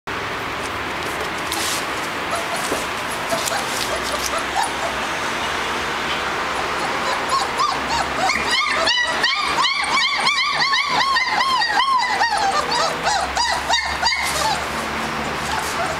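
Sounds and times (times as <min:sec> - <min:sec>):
puppies whimpering and yipping: 0:01.4 - 0:05.4, 0:06.5 - 0:15.9.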